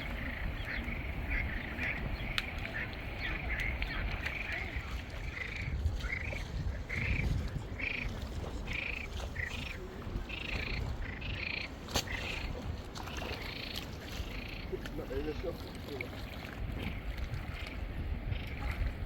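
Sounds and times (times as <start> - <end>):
frogs croaking: 0.0 - 15.6, 16.8 - 19.0.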